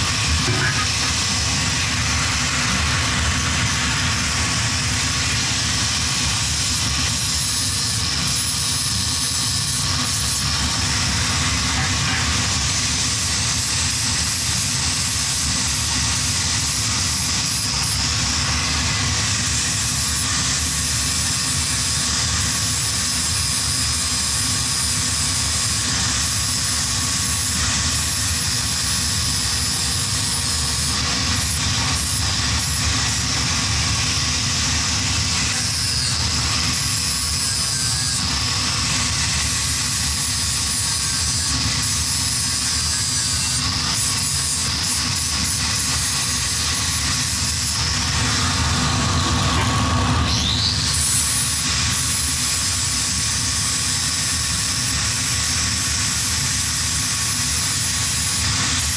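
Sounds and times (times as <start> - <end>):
angle grinder grinding steel: 0.0 - 58.9.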